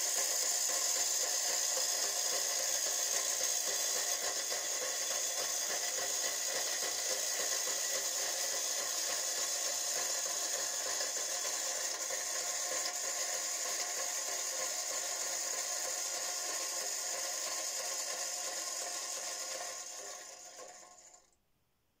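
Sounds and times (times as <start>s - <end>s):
mechanical paddle wheel whir: 0.0s - 21.3s.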